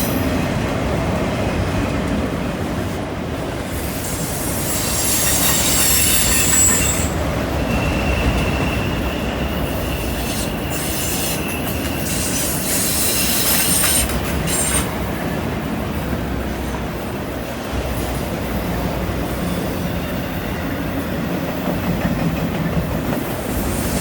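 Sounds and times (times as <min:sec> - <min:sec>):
train wheels squealing on rail: 0:00.0 - 0:00.6, 0:03.4 - 0:24.0
freight train rumbling: 0:00.0 - 0:24.0.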